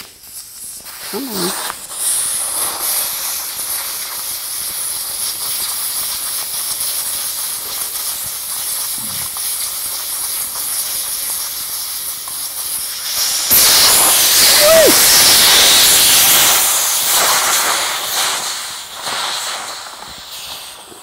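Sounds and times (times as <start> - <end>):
air hissing out of tire: 0.0 - 21.0.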